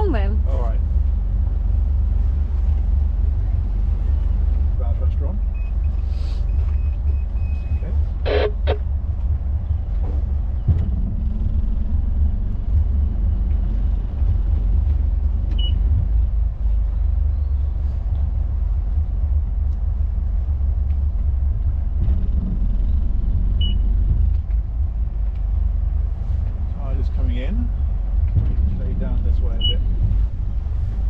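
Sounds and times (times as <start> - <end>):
motor boat engines idling: 0.0 - 31.0.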